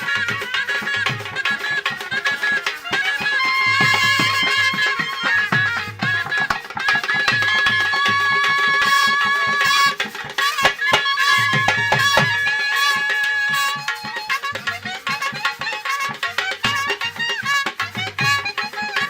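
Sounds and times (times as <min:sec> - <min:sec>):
drums beating quickly: 0:00.0 - 0:15.4
reed wind instrument high notes: 0:00.0 - 0:19.0.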